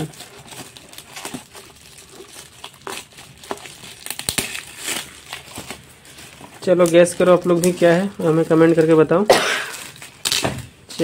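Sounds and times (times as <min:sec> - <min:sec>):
foil gift wrap crinkling: 0:00.0 - 0:11.0.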